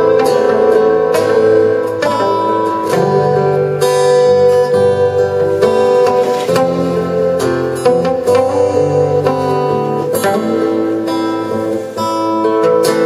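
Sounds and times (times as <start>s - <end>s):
acoustic guitars strumming: 0.0s - 13.0s.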